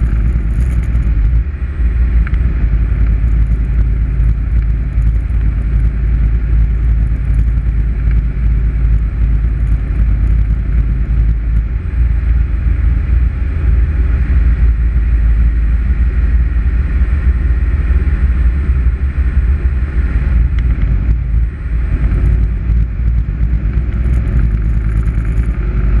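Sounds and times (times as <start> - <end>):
airflow noise around canopy: 0.0 - 26.0
light aircraft engine and propeller: 0.0 - 26.0.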